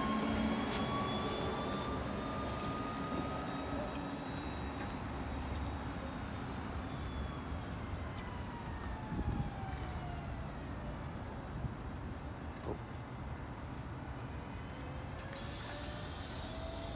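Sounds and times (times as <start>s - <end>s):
bus driving away: 0.0s - 16.9s.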